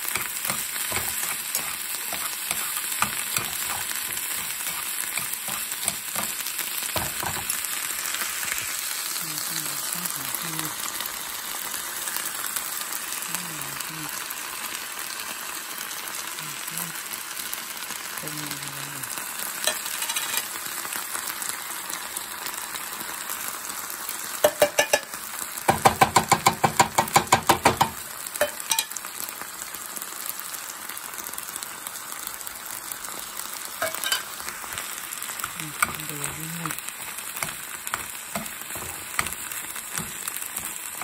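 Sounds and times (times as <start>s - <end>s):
food sizzling in oil in a frying pan: 0.0s - 41.0s.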